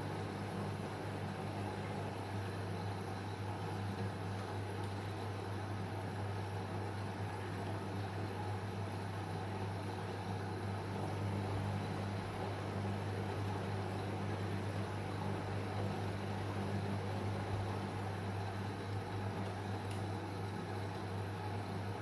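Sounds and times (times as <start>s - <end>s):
washing machine running: 0.0s - 22.0s.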